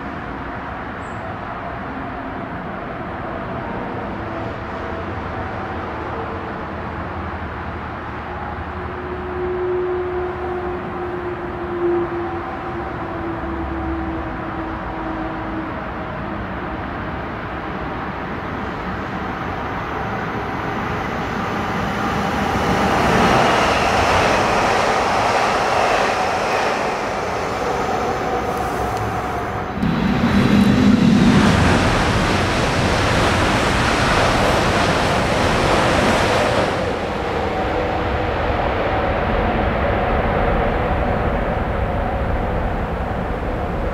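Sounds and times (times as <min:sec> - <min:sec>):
electric trains rushing past: 0:00.0 - 0:43.9.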